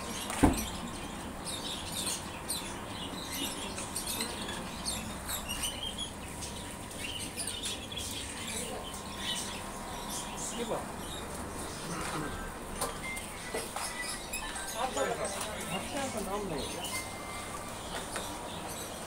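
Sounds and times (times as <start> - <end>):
small birds chirping and squeaking: 0.0 - 19.0.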